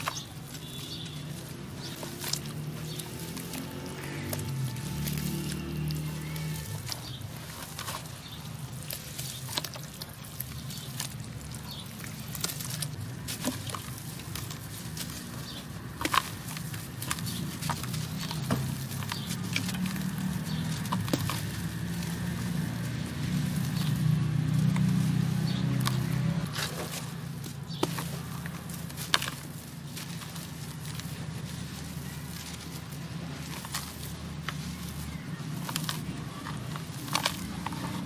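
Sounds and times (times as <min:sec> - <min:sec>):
grit pattering on metal: 0:00.0 - 0:38.0
hands crushing dry earth chunks: 0:00.0 - 0:38.0.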